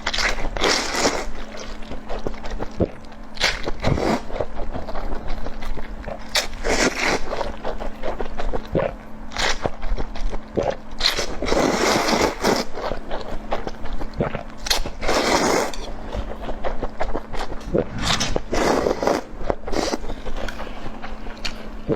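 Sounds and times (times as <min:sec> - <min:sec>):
person eating crunchy food: 0:00.0 - 0:21.9.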